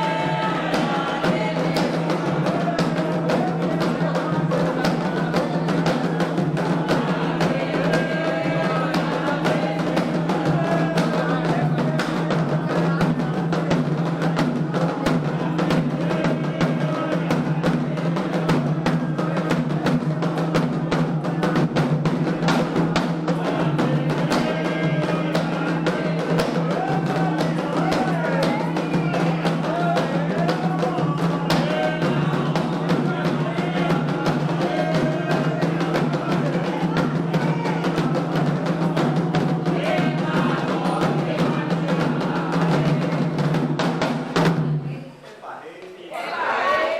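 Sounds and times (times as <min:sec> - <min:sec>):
hand drums: 0:00.0 - 0:45.0
voices singing a chant: 0:00.0 - 0:46.9.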